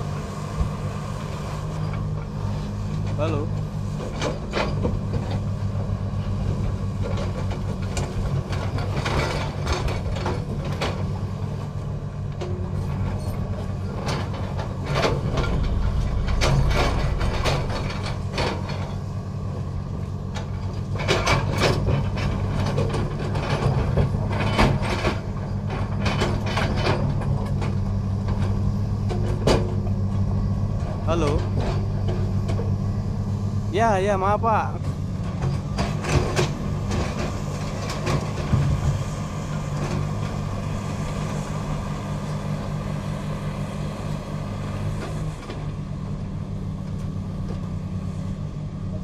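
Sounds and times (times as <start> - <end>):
diesel engine running under load: 0.0 - 49.0.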